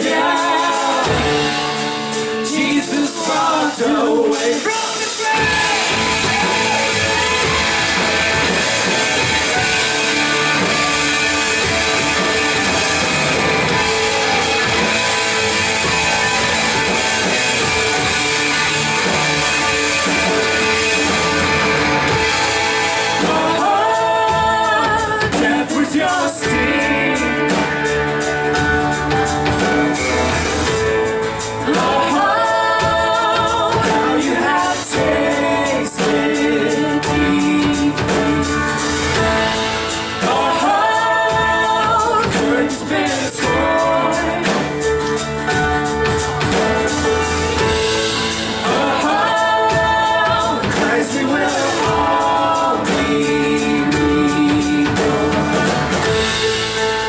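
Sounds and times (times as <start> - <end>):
people singing: 0.0 - 28.6, 30.0 - 46.9, 47.5 - 56.9
electric guitar and drums playing: 0.0 - 57.0.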